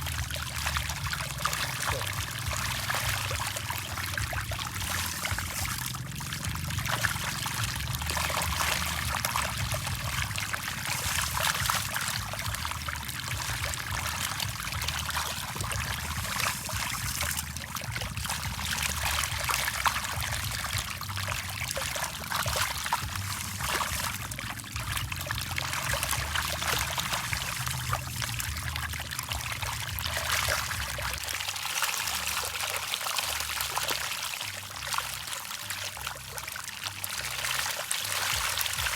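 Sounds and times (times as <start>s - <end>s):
fish splashing at water surface: 0.0s - 38.9s
trickling water: 0.0s - 38.9s.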